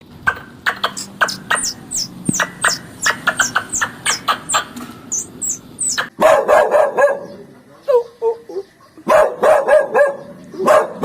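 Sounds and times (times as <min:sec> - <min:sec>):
small birds chirping: 0:00.2 - 0:06.2, 0:07.0 - 0:11.0.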